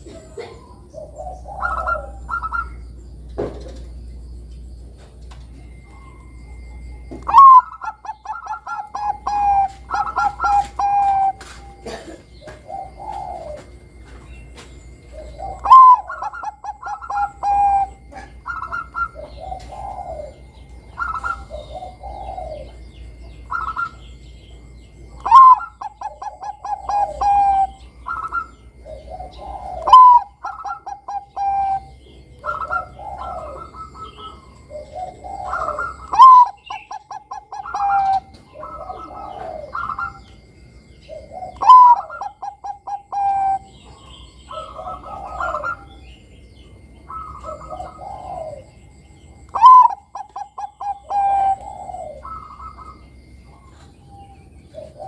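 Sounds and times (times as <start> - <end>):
dove cooing song: 0.0 - 55.0.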